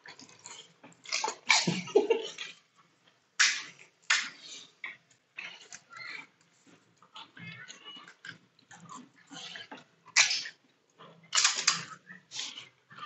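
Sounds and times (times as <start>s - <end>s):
crunching and slurping: 0.0s - 13.0s.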